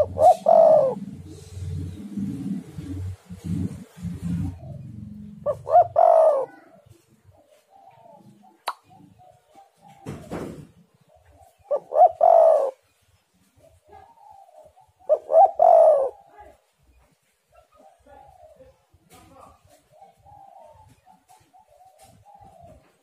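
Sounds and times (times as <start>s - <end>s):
dove cooing: 0.0s - 16.7s, 17.5s - 23.0s.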